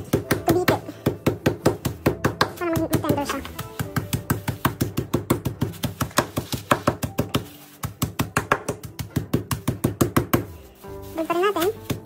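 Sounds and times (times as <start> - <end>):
meat mallet pounding: 0.0 - 10.6
background music: 0.0 - 12.0.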